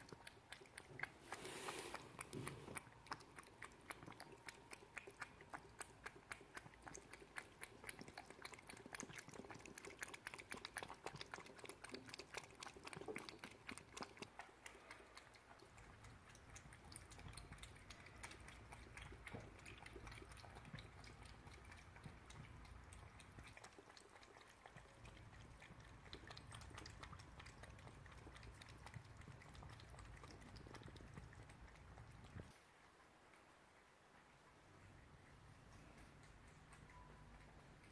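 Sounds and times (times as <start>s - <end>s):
cat licking wet tongue clicks: 0.0s - 32.5s, 35.4s - 37.9s.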